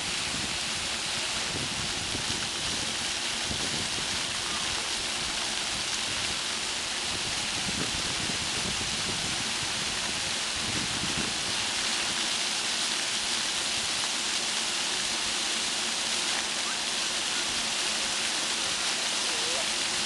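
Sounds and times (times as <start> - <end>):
fountain water splashing on stone: 0.0 - 20.0.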